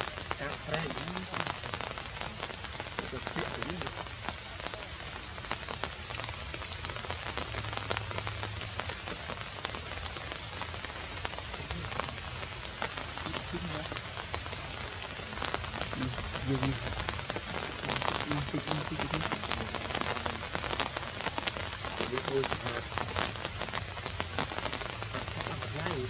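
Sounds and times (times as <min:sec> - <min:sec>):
faint voices: 0:00.0 - 0:07.6, 0:11.2 - 0:26.0
rain pattering: 0:00.0 - 0:26.0.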